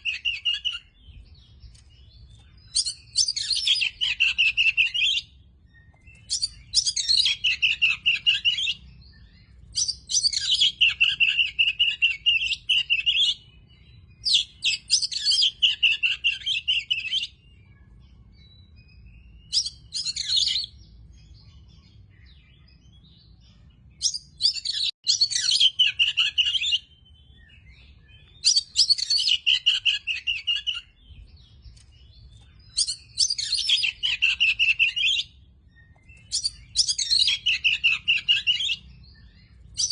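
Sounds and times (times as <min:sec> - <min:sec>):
bird singing varied notes: 0:00.0 - 0:39.9.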